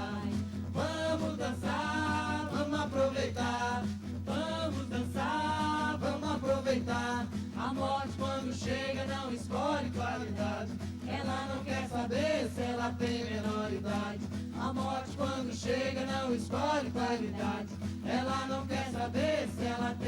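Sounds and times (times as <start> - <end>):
folk dance music: 0.0 - 20.0
group singing in chorus: 0.0 - 20.0.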